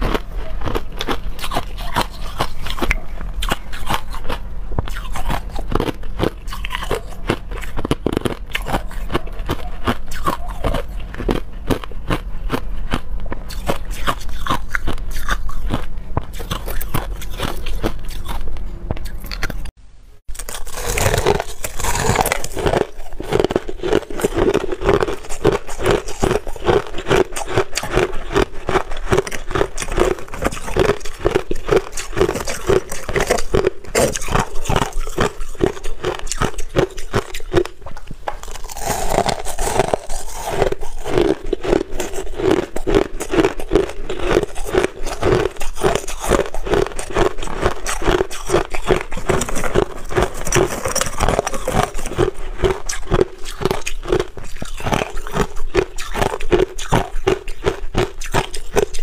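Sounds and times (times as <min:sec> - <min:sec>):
crushed ice being chewed: 0:00.0 - 0:19.7, 0:20.3 - 0:59.0.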